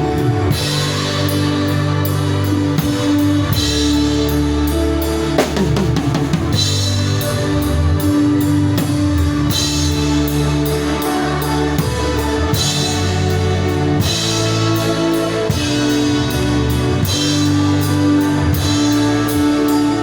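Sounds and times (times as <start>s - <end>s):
drum kit beat: 0.0s - 20.0s
live band playing: 0.0s - 20.0s
low bass notes: 0.0s - 20.0s.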